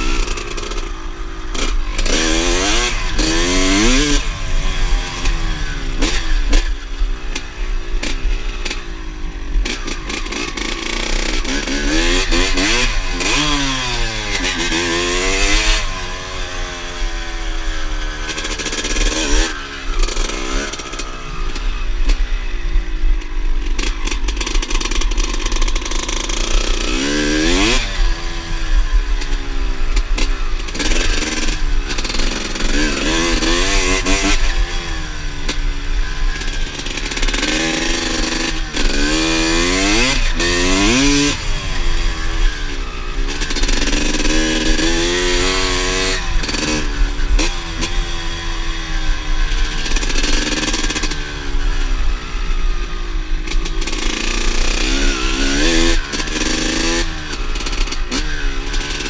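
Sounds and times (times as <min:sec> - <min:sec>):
two-stroke motorcycle engine revving: 0:00.0 - 0:59.0.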